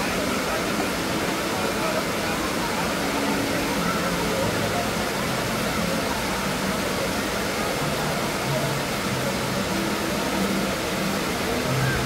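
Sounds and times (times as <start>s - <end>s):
distant indistinct voices: 0.0s - 12.0s
rushing water: 0.0s - 12.0s.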